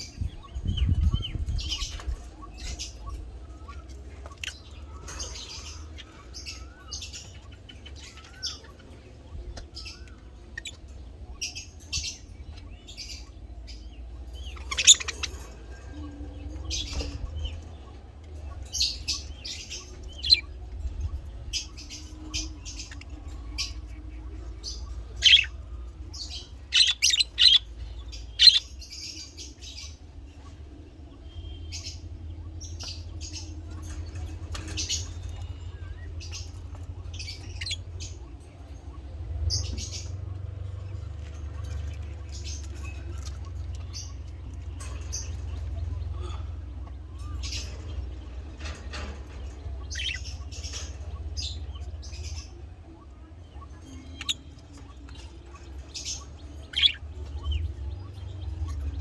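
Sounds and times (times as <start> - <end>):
budgerigars chirping and squawking: 0.0 - 59.0
low steady hum: 0.0 - 59.0.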